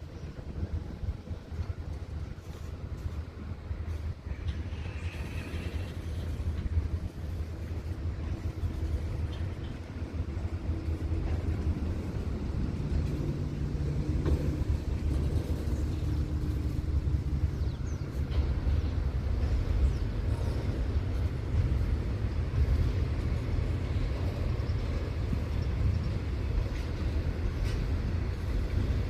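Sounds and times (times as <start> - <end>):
diesel locomotive engines rumbling: 0.0 - 29.0.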